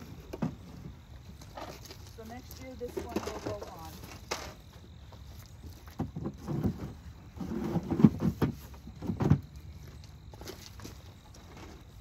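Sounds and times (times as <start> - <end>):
wood scraping: 0.0 - 12.0.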